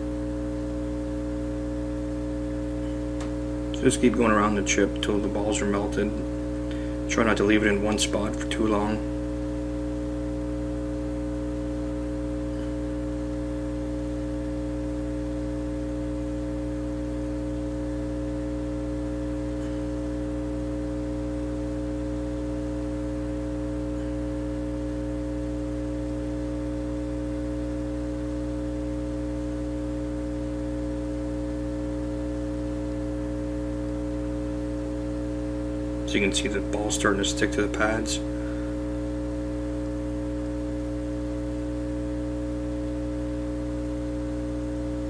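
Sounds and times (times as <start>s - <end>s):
hot air blower humming: 0.0s - 25.9s, 29.3s - 45.0s.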